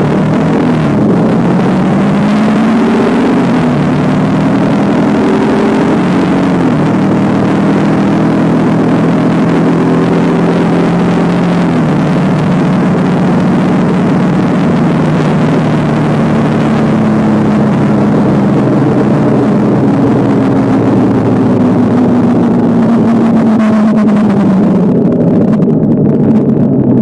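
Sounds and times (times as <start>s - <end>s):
motorcycle engine running: 0.0s - 27.0s
road noise: 0.0s - 27.0s
wind noise: 0.0s - 27.0s.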